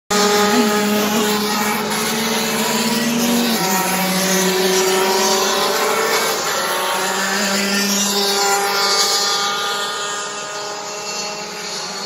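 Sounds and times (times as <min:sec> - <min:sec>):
racing kart engines: 0:00.1 - 0:12.0.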